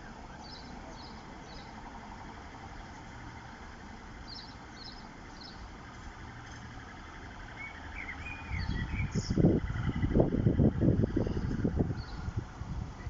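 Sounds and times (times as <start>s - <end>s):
small birds chirping: 0.0s - 3.3s, 4.0s - 10.2s, 11.2s - 12.4s
loud uneven low rumble: 0.0s - 13.0s.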